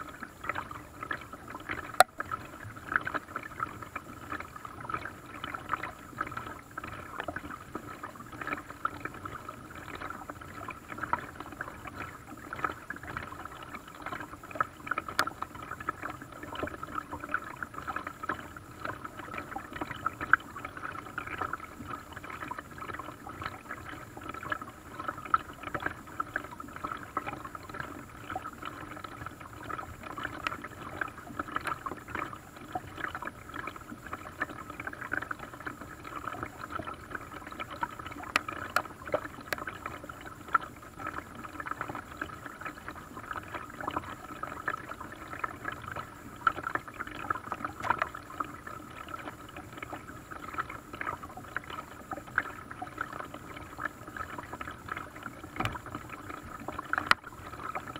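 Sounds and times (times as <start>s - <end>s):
paddle splashing water: 0.0s - 57.9s.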